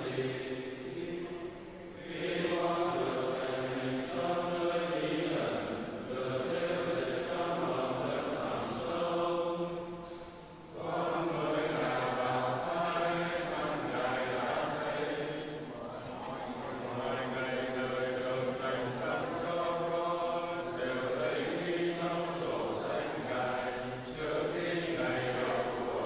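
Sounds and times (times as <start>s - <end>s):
congregation chanting prayers: 0.0s - 26.0s.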